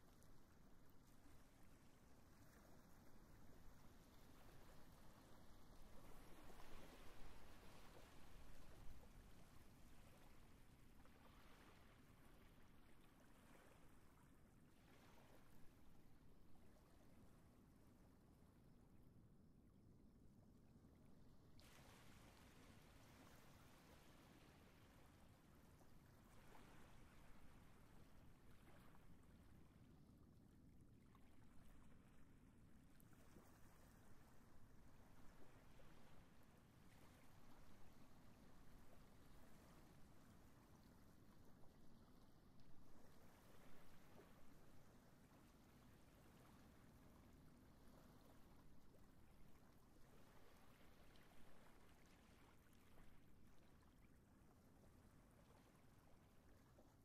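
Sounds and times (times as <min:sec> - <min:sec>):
small waves lapping on sand: 0:00.0 - 0:17.2, 0:21.6 - 0:29.5, 0:33.1 - 0:57.0.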